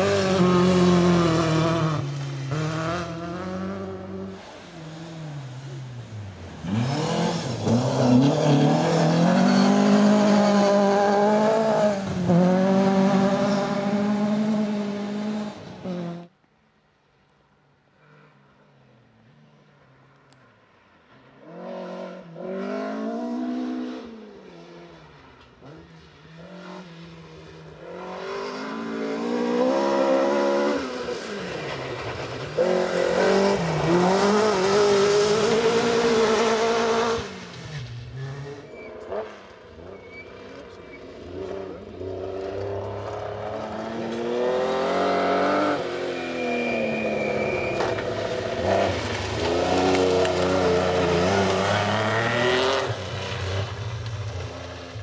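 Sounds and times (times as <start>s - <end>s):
rally car engines revving: 0.0s - 16.3s, 21.4s - 55.0s.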